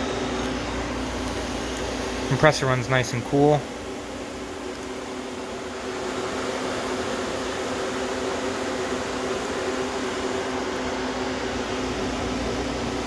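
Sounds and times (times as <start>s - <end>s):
compressor humming: 0.0s - 13.0s
fan running: 0.0s - 13.0s.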